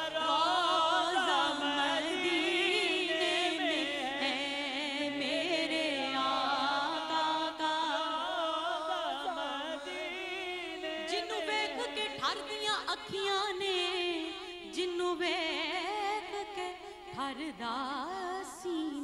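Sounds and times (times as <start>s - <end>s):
woman singing devotional song: 0.0s - 19.0s.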